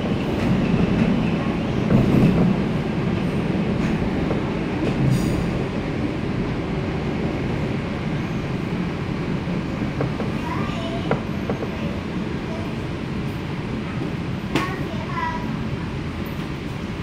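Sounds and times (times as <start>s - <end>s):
metro train wheels rumbling: 0.0s - 17.0s.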